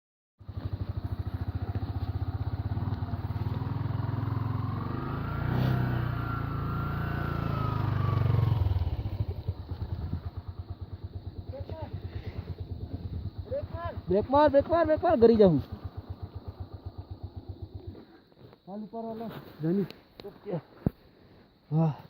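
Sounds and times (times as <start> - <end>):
motorcycle engine throbbing: 0.4 - 18.4
faint engine whine: 0.4 - 19.0.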